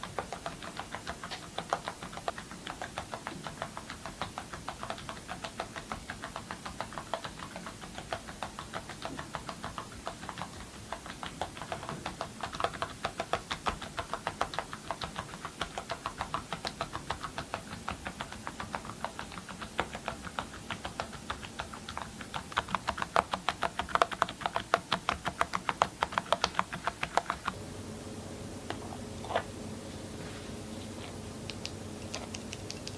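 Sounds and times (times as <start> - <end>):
mechanical keyboard typing: 0.0 - 27.5, 31.5 - 32.9.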